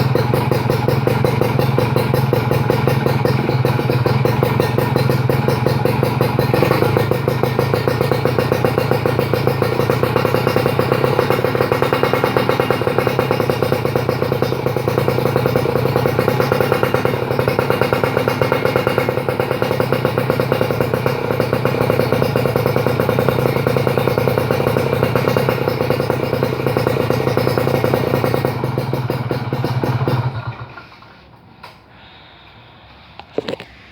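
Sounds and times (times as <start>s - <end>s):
two-stroke motorcycle engine running: 0.0s - 31.1s.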